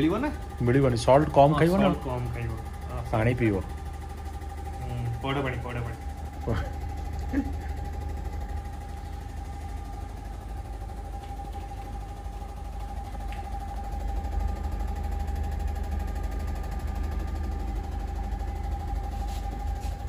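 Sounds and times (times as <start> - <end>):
pumps humming: 0.0 - 20.0.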